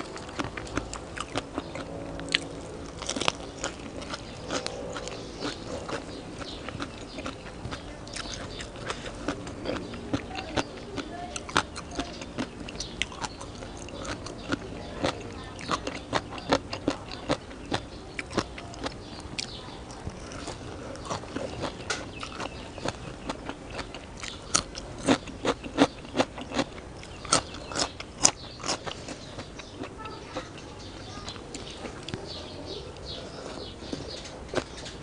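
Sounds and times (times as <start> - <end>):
crunchy chewing: 0.0 - 35.0.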